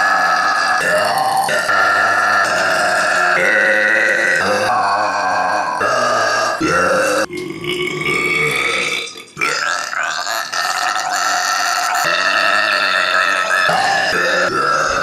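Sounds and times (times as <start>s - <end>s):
person belching: 0.0s - 15.0s.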